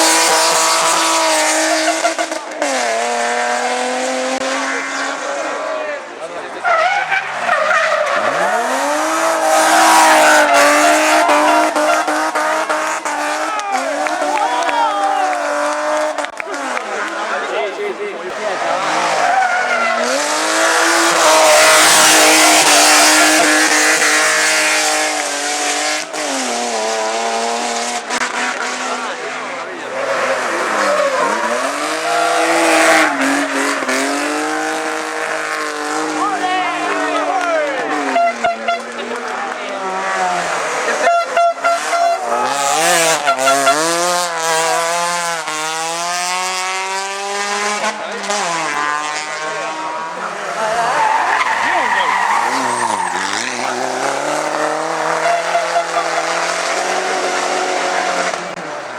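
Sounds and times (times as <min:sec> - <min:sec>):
race car engine at full throttle: 0:00.0 - 0:58.9.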